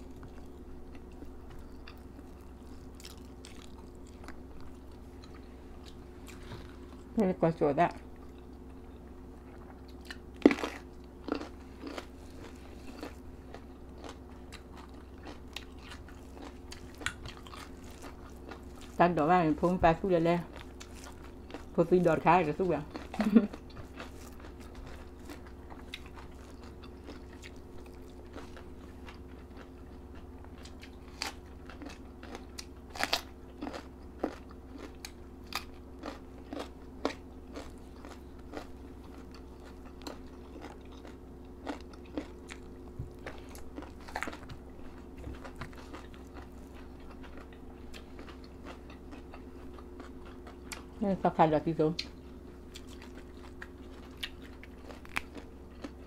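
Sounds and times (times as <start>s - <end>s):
crunching and chewing vegetables: 0.0s - 56.0s
steady low hum: 0.0s - 56.0s.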